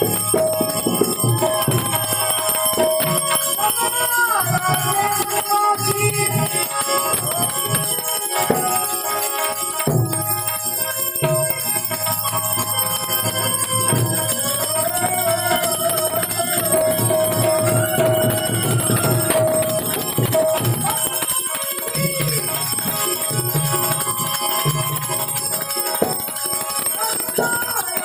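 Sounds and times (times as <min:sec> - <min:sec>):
harmonium melody: 0:00.0 - 0:28.0
jingling bell-like percussion: 0:00.0 - 0:28.0.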